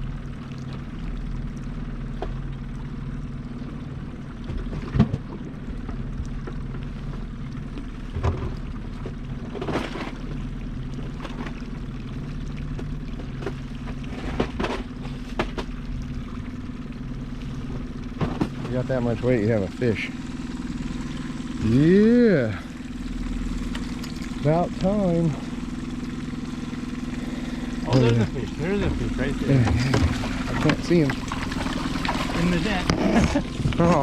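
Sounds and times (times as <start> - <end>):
knocks and clatters on boat: 0.0 - 21.6, 22.7 - 34.0
boat motor drone: 0.0 - 34.0.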